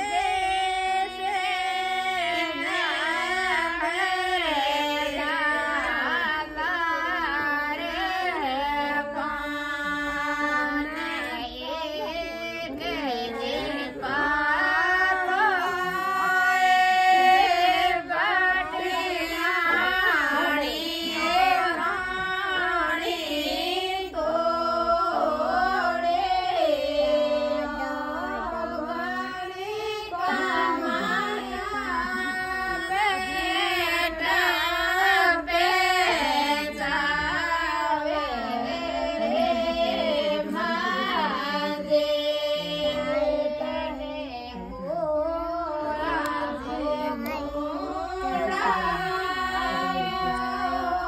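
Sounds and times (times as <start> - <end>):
women singing folk song: 0.0 - 51.0.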